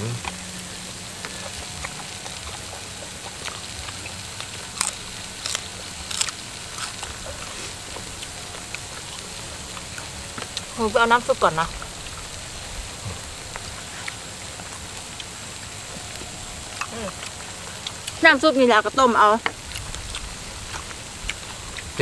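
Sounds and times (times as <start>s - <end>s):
meat sizzling on grill pan: 0.0s - 22.0s.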